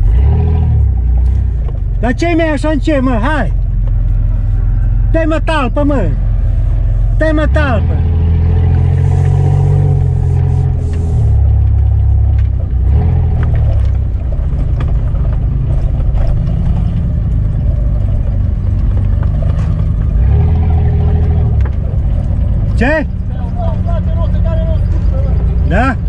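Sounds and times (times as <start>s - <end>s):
off-road engines under throttle: 0.0s - 26.0s
vehicles knocking and rattling: 0.0s - 26.0s.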